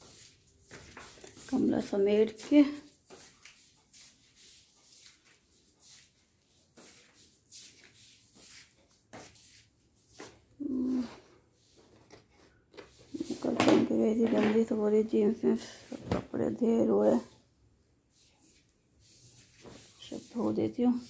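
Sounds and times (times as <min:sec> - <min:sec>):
clothes rustling: 0:00.0 - 0:17.3, 0:18.1 - 0:21.0.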